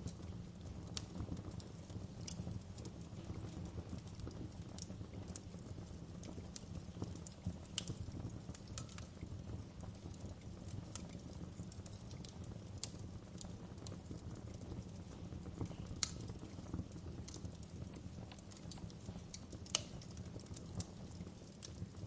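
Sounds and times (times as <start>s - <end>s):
fire crackling and popping: 0.0s - 22.0s
low rumble of burning: 0.0s - 22.0s.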